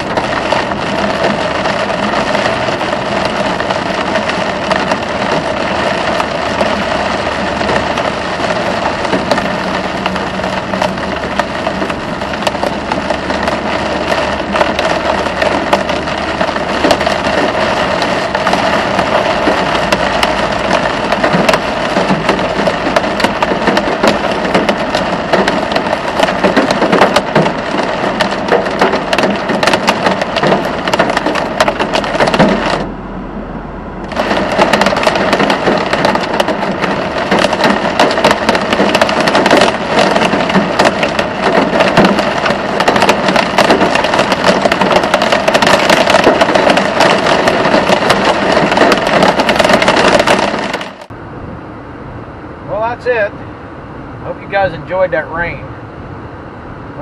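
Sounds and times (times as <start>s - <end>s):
hail and heavy rain on car roof: 0.0s - 32.9s, 34.0s - 51.1s, 52.7s - 53.3s, 54.3s - 55.6s.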